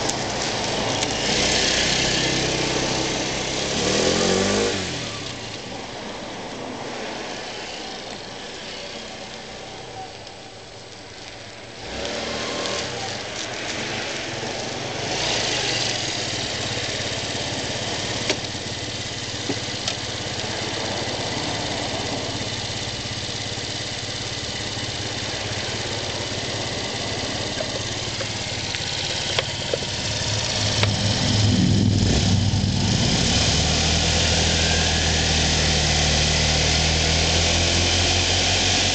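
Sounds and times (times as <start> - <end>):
scooter engine idling: 0.0 - 6.2, 12.7 - 38.9.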